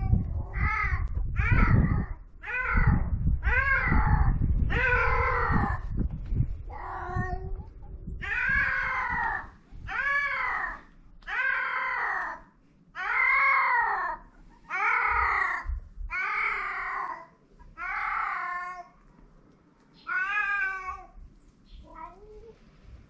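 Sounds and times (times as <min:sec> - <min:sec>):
cats yowling: 0:00.0 - 0:05.9, 0:06.7 - 0:07.6, 0:08.2 - 0:18.9, 0:20.0 - 0:21.2.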